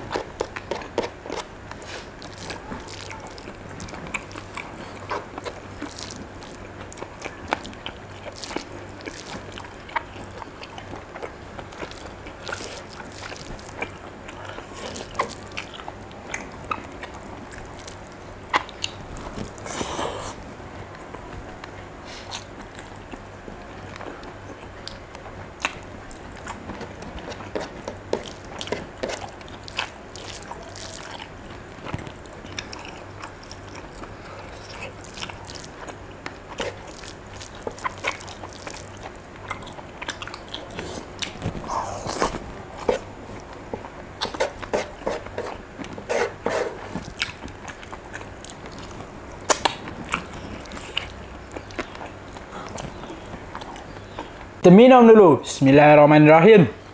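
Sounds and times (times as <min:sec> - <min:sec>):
person chewing with wet smacking: 0:00.0 - 0:54.6.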